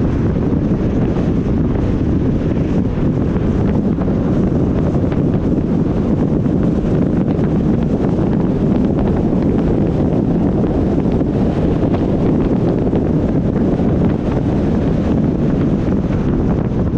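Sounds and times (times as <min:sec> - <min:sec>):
wind rumble on microphone: 0:00.0 - 0:16.9.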